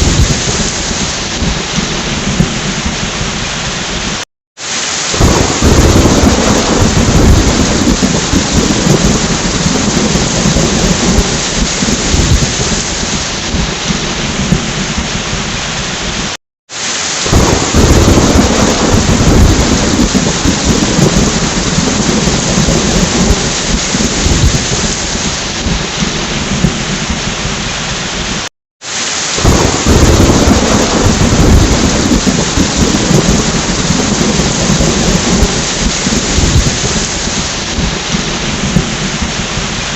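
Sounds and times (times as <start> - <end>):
thunder rumbling: 0.0 - 4.2, 5.1 - 16.4, 17.2 - 28.5, 29.3 - 39.9
heavy rain: 0.0 - 39.9.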